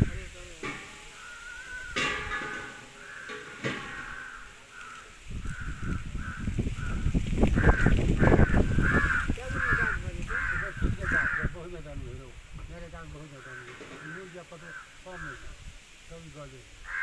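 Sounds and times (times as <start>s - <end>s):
crows cawing: 0.0s - 17.0s.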